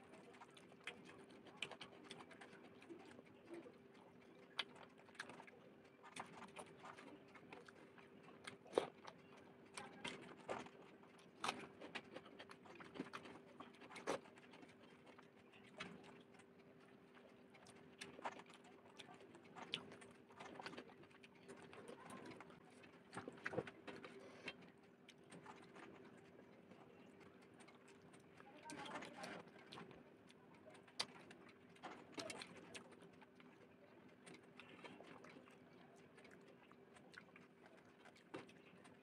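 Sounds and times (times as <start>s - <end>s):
faint steady hum: 0.0s - 39.0s
person chewing food: 0.0s - 39.0s.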